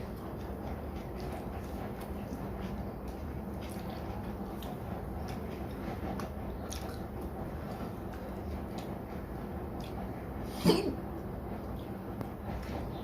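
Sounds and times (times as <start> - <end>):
chewing and wet eating sounds: 0.0 - 13.0
low background hum: 0.0 - 13.0.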